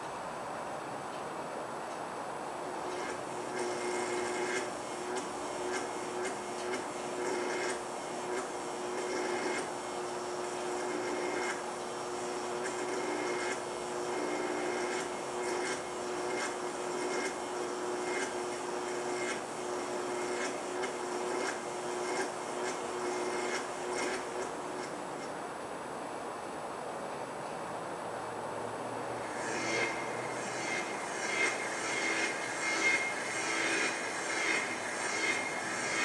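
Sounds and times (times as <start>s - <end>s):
noisy buzz: 0.0s - 36.0s
electric hum: 2.6s - 25.5s, 29.0s - 36.0s.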